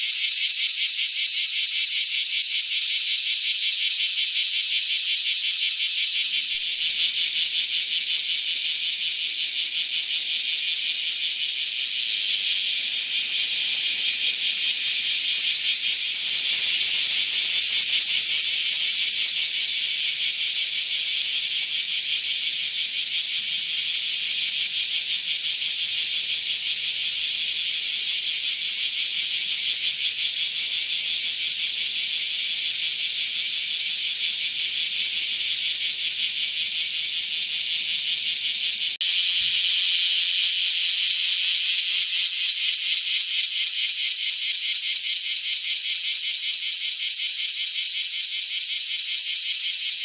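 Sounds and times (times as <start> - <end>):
cicada buzzing: 0.0 - 50.0.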